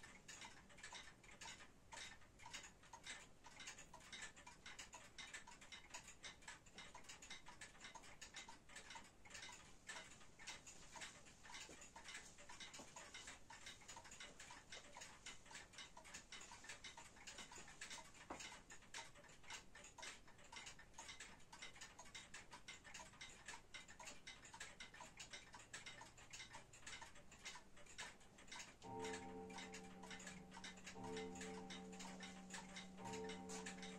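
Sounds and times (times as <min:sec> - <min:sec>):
wall clock ticking: 0:00.0 - 0:33.9.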